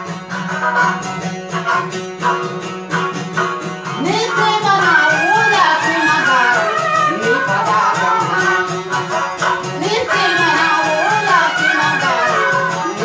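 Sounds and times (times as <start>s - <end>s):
bowed fiddle melody: 0.0s - 13.0s
lute strumming: 0.0s - 13.0s.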